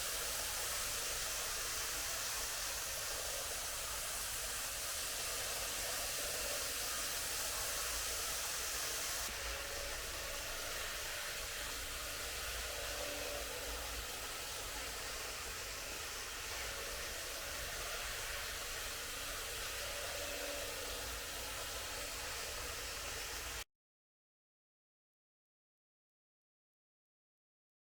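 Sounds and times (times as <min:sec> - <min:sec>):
model train whirring on track: 0:00.0 - 0:23.6.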